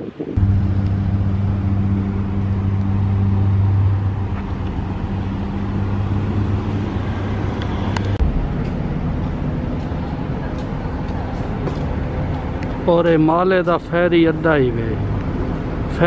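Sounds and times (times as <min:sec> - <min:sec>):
road noise: 0:00.0 - 0:16.0
vehicle engine humming: 0:00.0 - 0:16.0.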